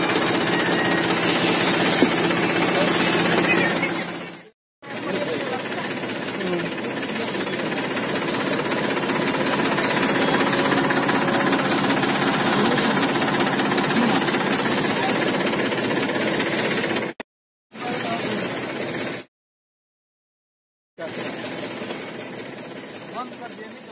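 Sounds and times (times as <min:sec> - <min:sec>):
mixer paddles churning sand: 0:00.0 - 0:17.2, 0:17.8 - 0:19.3, 0:21.0 - 0:23.9
tractor engine: 0:00.0 - 0:17.2, 0:21.0 - 0:23.9.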